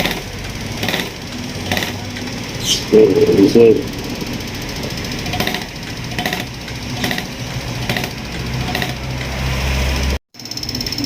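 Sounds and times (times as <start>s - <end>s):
pump hum: 0.0s - 11.0s.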